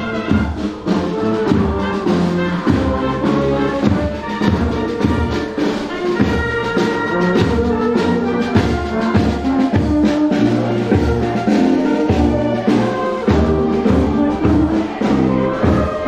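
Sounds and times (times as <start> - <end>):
marching brass band playing: 0.0 - 16.0
snare drum beat: 0.0 - 16.0.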